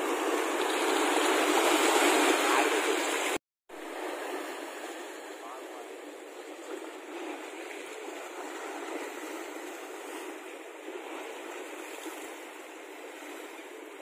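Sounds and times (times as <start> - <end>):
sea waves surging on shore: 0.0 - 14.0.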